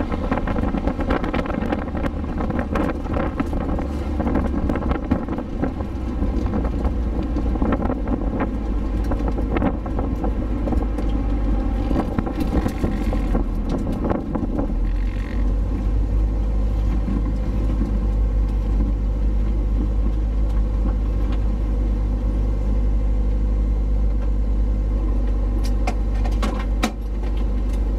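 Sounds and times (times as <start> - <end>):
car engine and road noise: 0.0 - 27.9.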